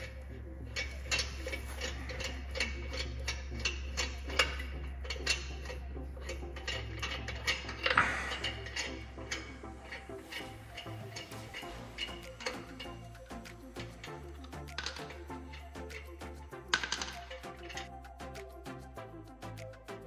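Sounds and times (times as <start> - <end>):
steady low hum: 0.0 - 19.8
sharp metal clicking of hand tools: 0.0 - 20.0.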